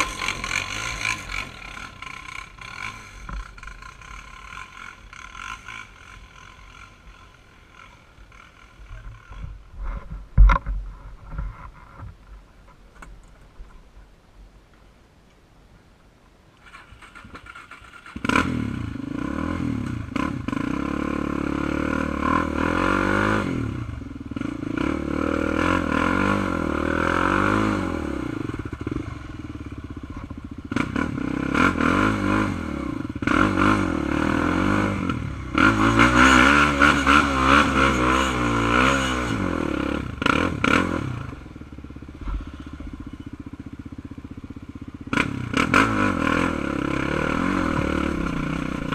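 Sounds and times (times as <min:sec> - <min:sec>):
quad engine revving: 0:00.0 - 0:09.6, 0:16.6 - 0:48.9.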